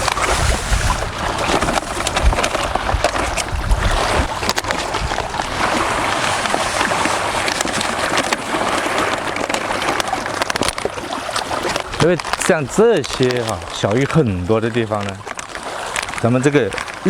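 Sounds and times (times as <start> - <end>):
waves sloshing against shore: 0.0 - 17.0
wind buffeting microphone: 0.0 - 17.0.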